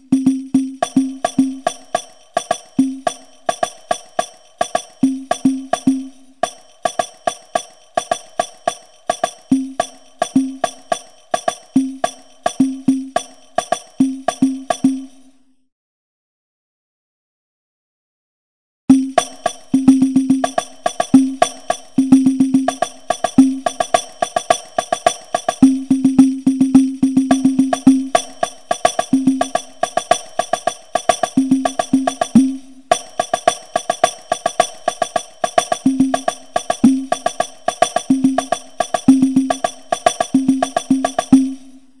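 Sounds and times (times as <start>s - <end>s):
hand drums playing: 0.0s - 6.1s, 6.9s - 15.1s, 18.9s - 41.6s.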